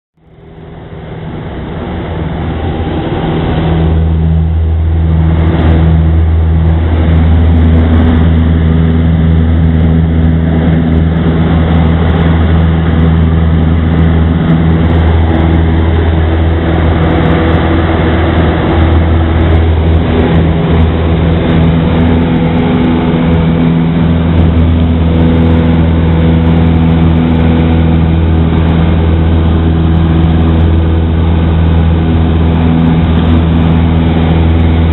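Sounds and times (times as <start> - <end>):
propeller plane engine drone: 0.2 - 34.9.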